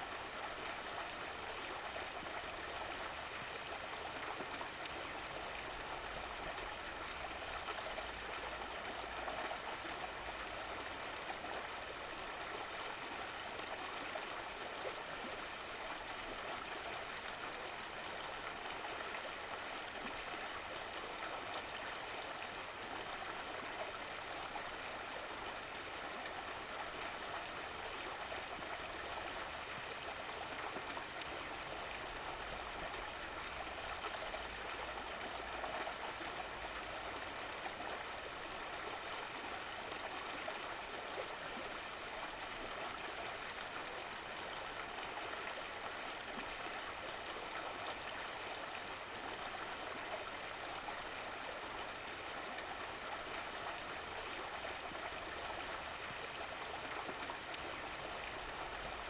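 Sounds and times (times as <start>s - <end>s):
stream burbling: 0.0s - 59.0s.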